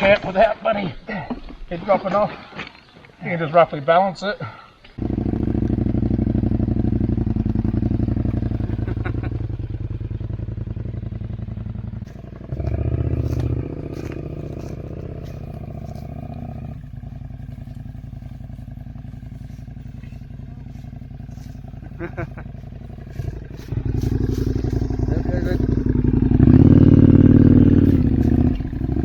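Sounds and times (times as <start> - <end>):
motorcycle engine pulling away: 5.0 - 29.0.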